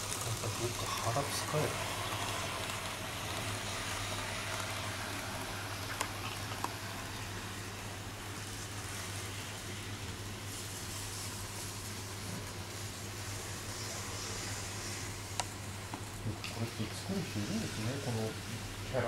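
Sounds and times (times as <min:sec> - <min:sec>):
room noise hiss: 0:00.0 - 0:19.0.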